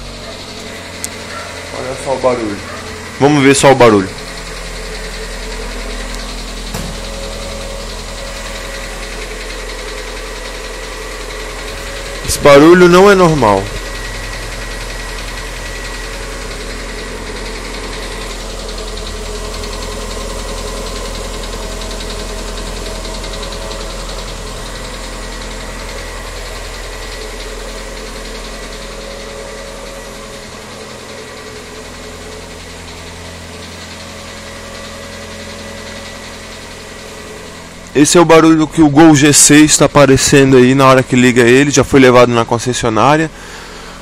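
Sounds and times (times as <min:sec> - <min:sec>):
abnormal engine noise: 0:00.0 - 0:44.0
car engine idling: 0:00.0 - 0:44.0.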